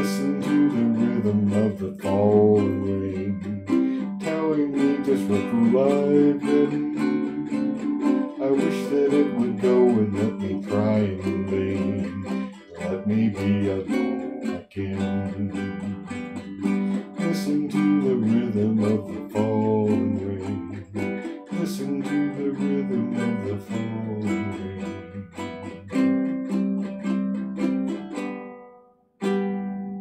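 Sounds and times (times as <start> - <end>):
ukulele strumming: 0.0 - 30.0.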